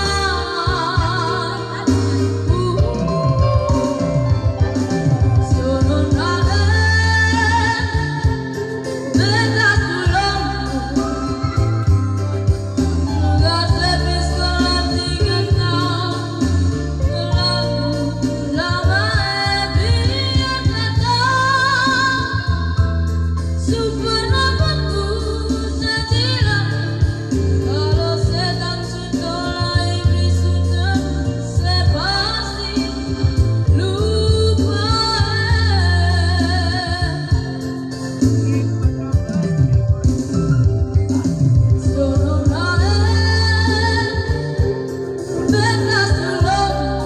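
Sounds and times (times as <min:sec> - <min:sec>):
person singing with vibrato: 0:00.0 - 0:38.8, 0:41.0 - 0:47.0
instrumental accompaniment with bass: 0:00.0 - 0:47.0.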